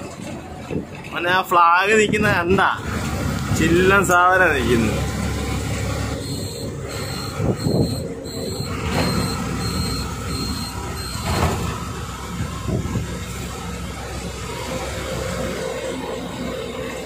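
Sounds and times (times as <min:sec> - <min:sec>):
truck engine and tyre rumble: 0:00.0 - 0:17.0.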